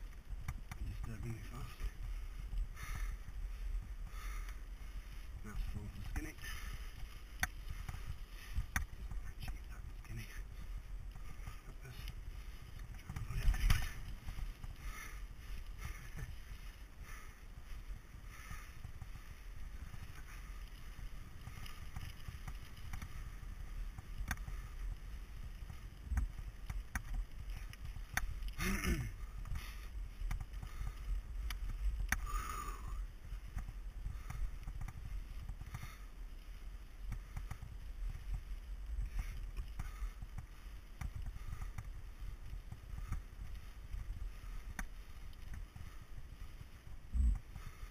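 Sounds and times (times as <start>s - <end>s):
bike knocking and rattling: 0.0s - 47.9s
bike tyre rumble: 0.0s - 47.9s
wind noise on microphone: 6.6s - 47.9s.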